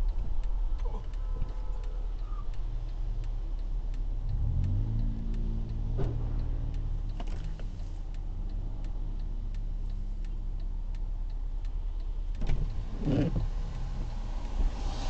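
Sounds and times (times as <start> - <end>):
car engine rumble: 0.0 - 15.0
rainy traffic: 0.0 - 15.0
regular ticking: 0.0 - 15.0.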